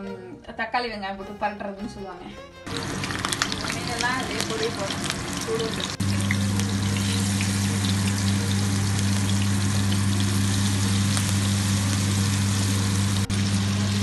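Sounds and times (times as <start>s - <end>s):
fish sizzling in hot oil: 2.7s - 14.0s
loud steady low hum: 2.7s - 14.0s.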